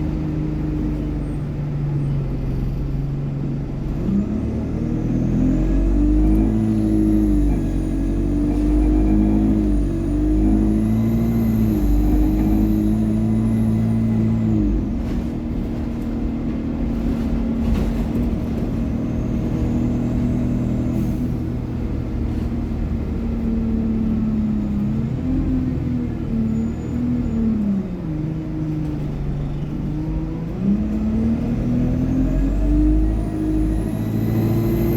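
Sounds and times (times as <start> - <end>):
bus engine changing gear: 0.0 - 34.9.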